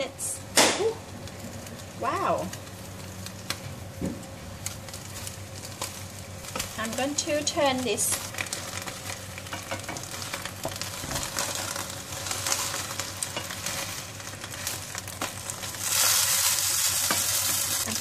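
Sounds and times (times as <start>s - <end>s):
oil sizzling in pan: 0.0s - 18.0s.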